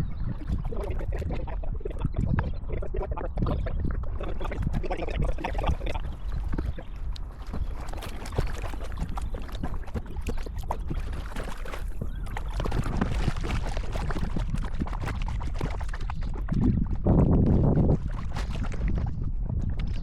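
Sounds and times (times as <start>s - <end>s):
kayak paddle splashing: 0.5s - 19.2s.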